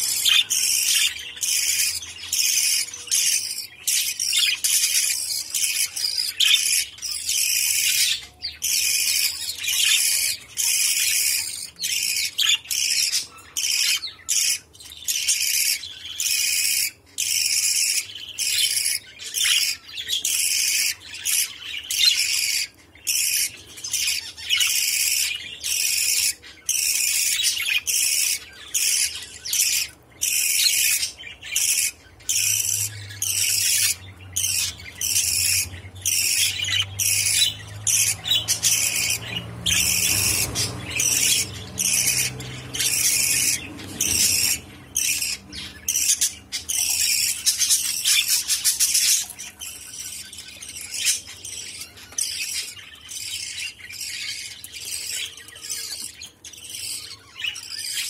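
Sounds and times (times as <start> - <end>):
bird chick begging calls: 0.0 - 58.0.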